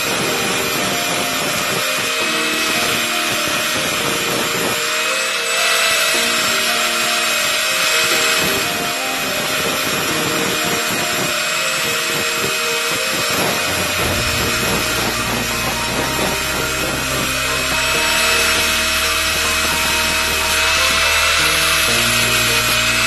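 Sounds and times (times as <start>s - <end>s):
angle grinder whine: 0.0s - 23.0s
disc grinding metal: 0.0s - 23.0s.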